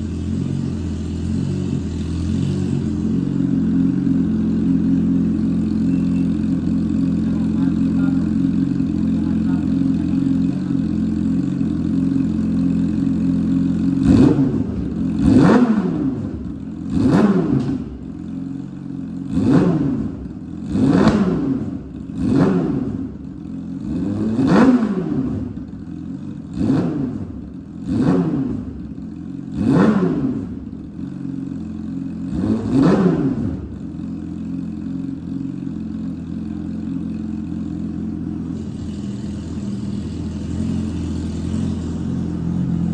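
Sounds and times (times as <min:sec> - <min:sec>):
motorcycle engine idling: 0:00.0 - 0:42.9
motorcycle engine revving: 0:00.0 - 0:42.9.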